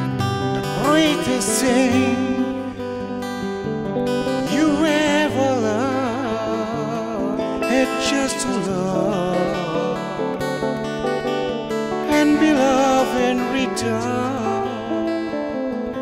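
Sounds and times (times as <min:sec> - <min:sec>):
electric guitar playing chords: 0:00.0 - 0:16.0
guitar lead melody wavering: 0:00.0 - 0:16.0
strummed acoustic guitar: 0:00.0 - 0:16.0.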